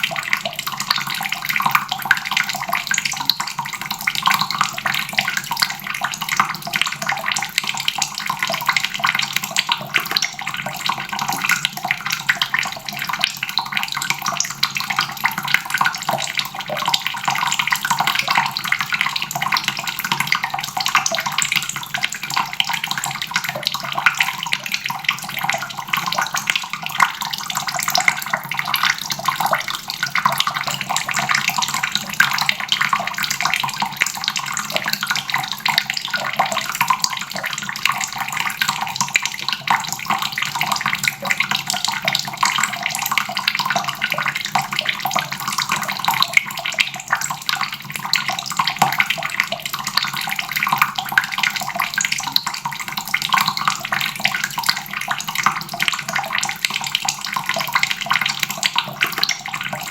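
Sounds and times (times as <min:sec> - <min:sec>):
tap water splashing into basin: 0:00.0 - 0:59.9.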